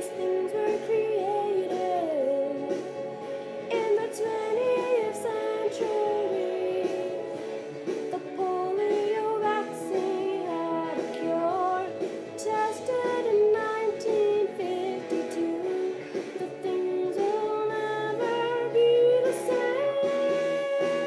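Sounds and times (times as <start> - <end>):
woman singing: 0.0 - 3.0, 3.6 - 7.4, 8.0 - 21.0
instrumental backing track: 0.0 - 21.0.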